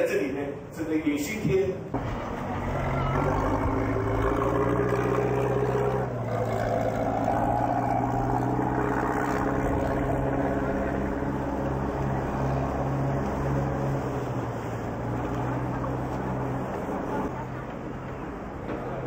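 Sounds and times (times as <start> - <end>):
boat engine droning: 1.9 - 19.0.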